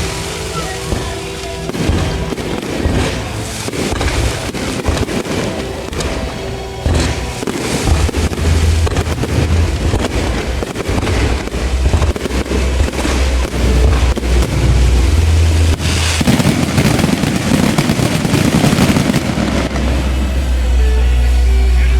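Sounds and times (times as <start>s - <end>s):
firecrackers crackling bangs: 0.0s - 21.9s.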